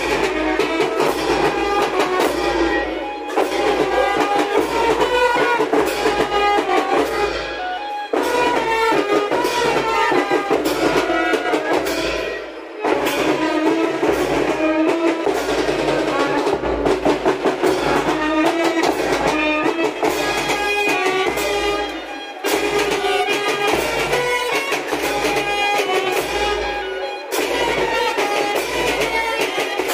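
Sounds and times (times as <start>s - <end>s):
brass band playing: 0.0s - 29.9s
steady drum beat: 0.0s - 29.9s.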